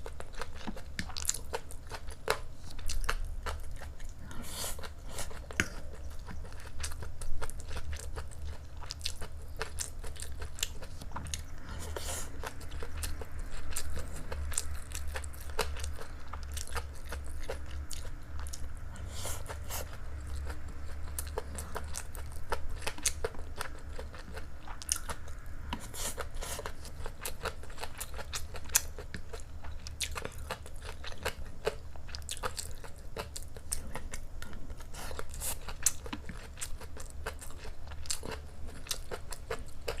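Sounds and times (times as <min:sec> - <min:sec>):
low steady hum: 0:00.0 - 0:40.0
person chewing food: 0:00.0 - 0:40.0.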